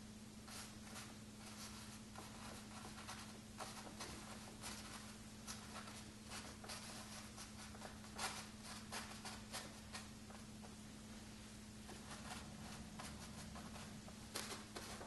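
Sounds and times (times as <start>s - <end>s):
low electrical hum: 0.0s - 15.0s
ink brush scratching on paper: 0.4s - 10.4s, 11.8s - 15.0s.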